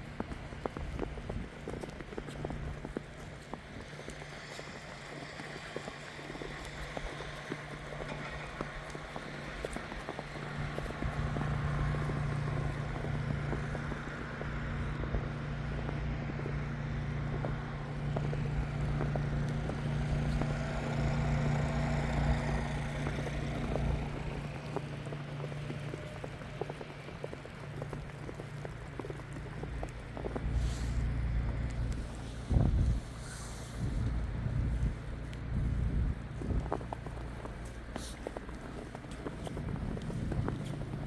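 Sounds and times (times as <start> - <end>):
vehicle engine hum passing: 0.0 - 41.0.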